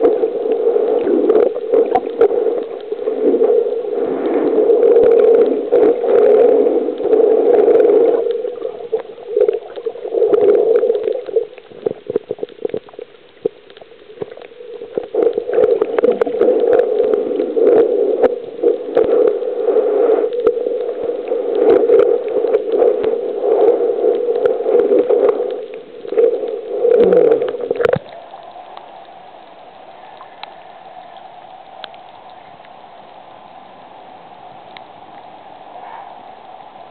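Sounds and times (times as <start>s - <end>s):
bubbling and clicks underwater: 0.0s - 36.9s
muffled underwater rushing: 0.0s - 36.9s.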